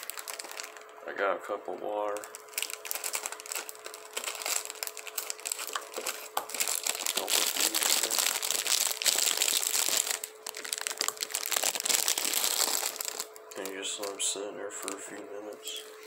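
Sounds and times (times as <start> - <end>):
plastic bag crinkling: 0.0 - 1.0, 2.1 - 16.0.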